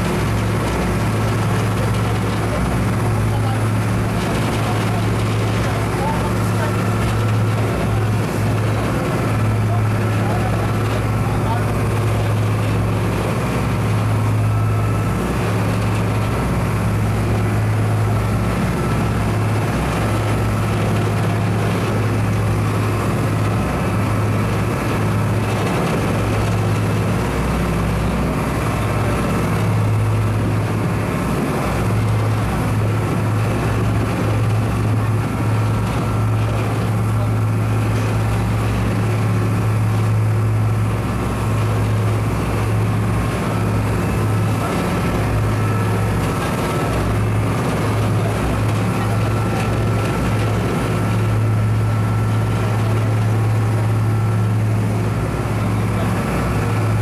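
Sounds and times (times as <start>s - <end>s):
boat engines droning: 0.0s - 57.0s.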